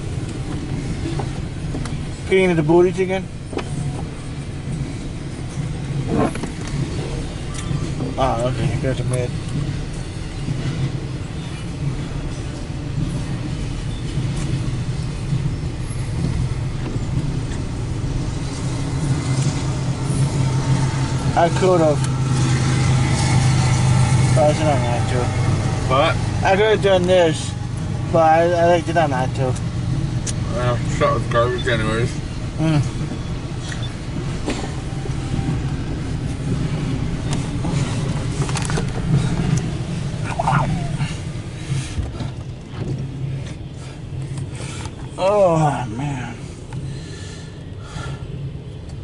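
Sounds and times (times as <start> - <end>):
freight train cars rumbling: 0.0 - 49.0
locomotive engine drone: 0.0 - 49.0.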